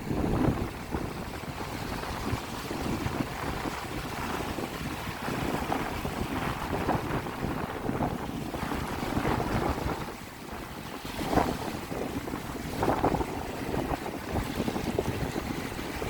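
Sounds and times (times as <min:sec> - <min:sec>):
small waves washing in: 0:00.0 - 0:16.0
wind buffeting microphone: 0:00.0 - 0:16.0.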